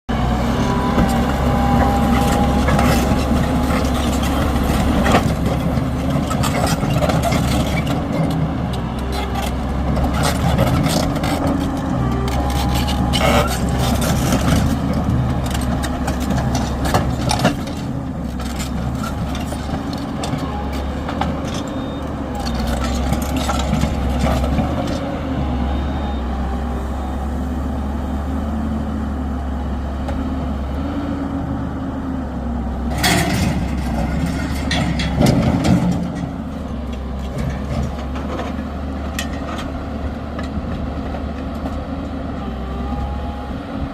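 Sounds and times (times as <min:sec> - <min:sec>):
heavy engine rumbling: 0:00.1 - 0:43.9.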